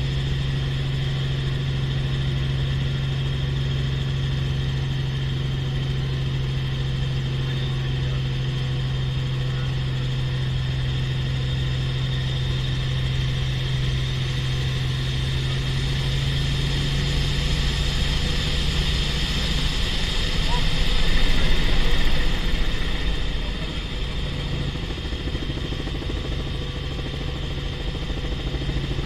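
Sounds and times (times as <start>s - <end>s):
helicopter engine and rotor hum: 0.0s - 29.0s.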